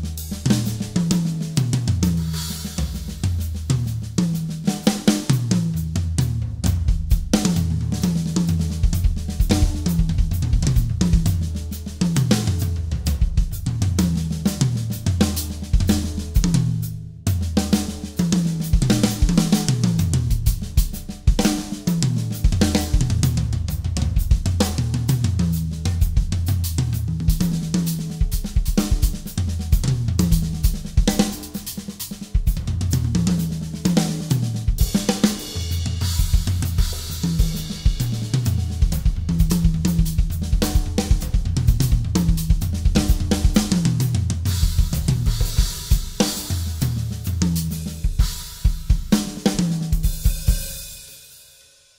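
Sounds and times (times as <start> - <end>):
drum kit playing: 0.0 - 51.6.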